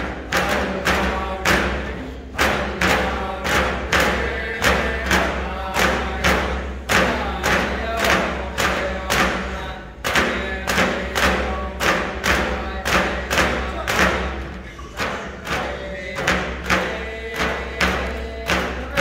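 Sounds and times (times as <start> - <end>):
frame drums beating: 0.0 - 19.0
group of voices singing: 0.0 - 19.0.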